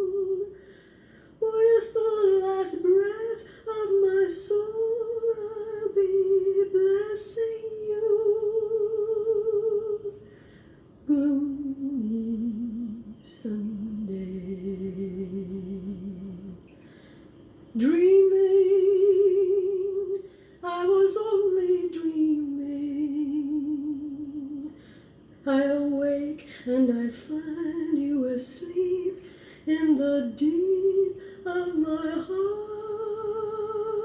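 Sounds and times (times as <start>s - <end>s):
woman singing unaccompanied: 0.0s - 0.7s, 1.4s - 10.2s, 11.0s - 16.7s, 17.7s - 24.8s, 25.4s - 34.0s.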